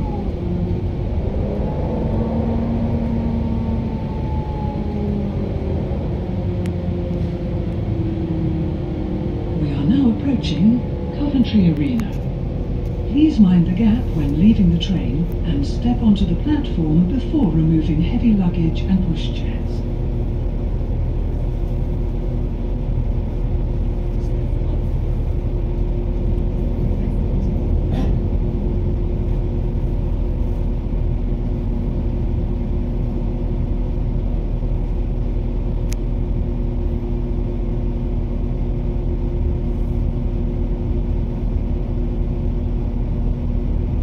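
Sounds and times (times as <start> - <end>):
constant hum: 0.0 - 44.0
train engine and wheels rumbling: 0.0 - 44.0.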